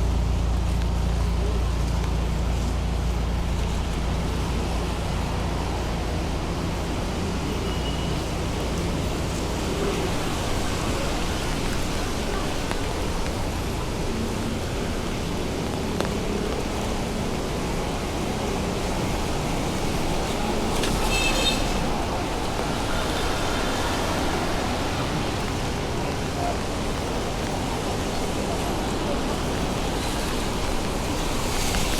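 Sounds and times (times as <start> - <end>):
heavy rain: 0.0 - 31.9
traffic going by: 0.0 - 31.9.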